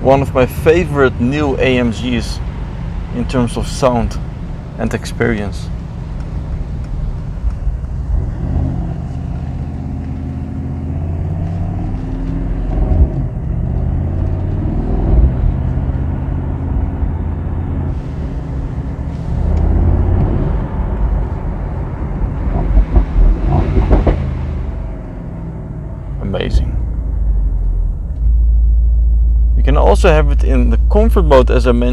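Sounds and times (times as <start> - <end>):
car engine accelerating: 0.0 - 31.9
exhaust cracks: 0.0 - 31.9.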